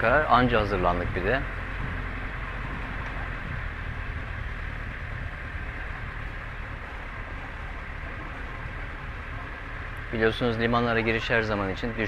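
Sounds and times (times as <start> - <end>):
boat engine running at low speed: 0.0 - 12.0.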